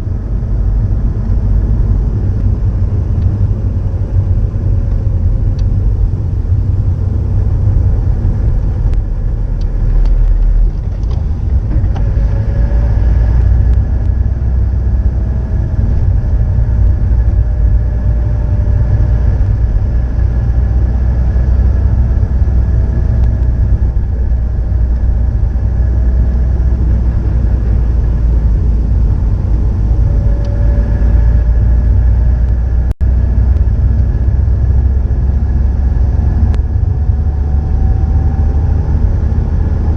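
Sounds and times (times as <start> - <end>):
deep engine exhaust rumble: 0.0 - 39.9.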